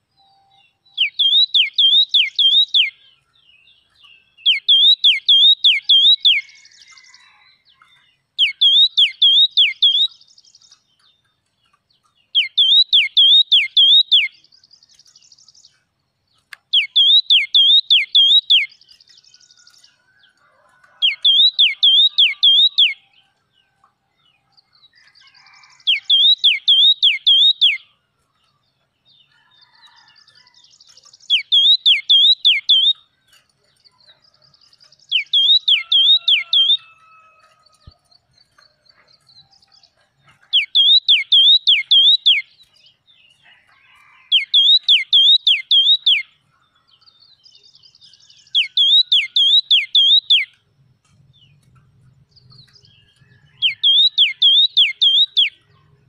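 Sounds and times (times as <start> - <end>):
bird singing whistled notes: 0.0 - 7.5, 8.4 - 11.3, 12.2 - 15.8, 16.6 - 20.0, 20.9 - 23.3, 24.4 - 27.9, 30.7 - 37.0, 37.8 - 43.3, 44.3 - 46.3, 47.0 - 50.6, 51.3 - 56.0
soft bird twittering: 0.0 - 7.5, 8.4 - 11.3, 12.0 - 23.2, 24.7 - 27.9, 29.3 - 46.3, 47.0 - 50.6, 51.3 - 56.0.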